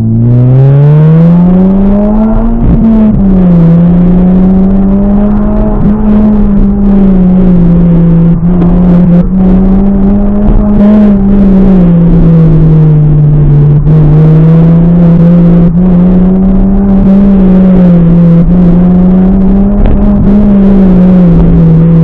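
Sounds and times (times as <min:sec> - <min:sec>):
car engine under hard driving: 0:00.0 - 0:22.0.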